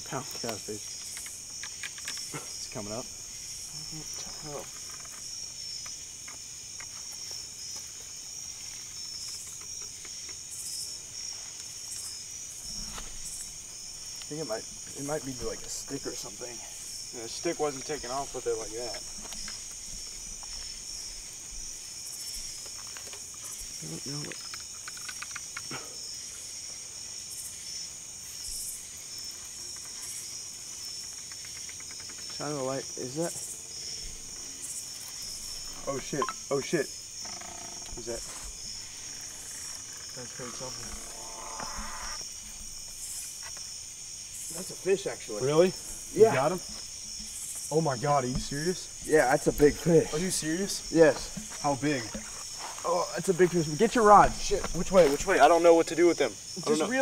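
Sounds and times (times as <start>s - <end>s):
crickets and insects chirring: 0.0s - 57.0s
louder insect calls: 0.0s - 57.0s.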